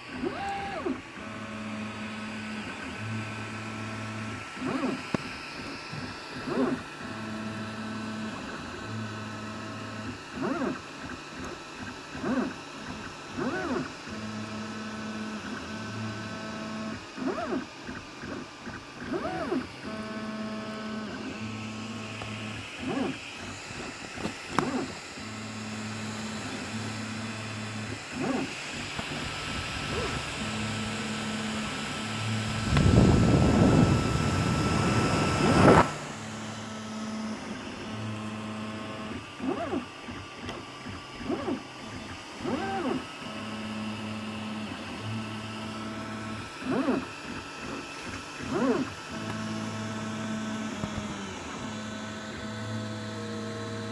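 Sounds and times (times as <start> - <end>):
stepper motors humming and whining: 0.0 - 53.9.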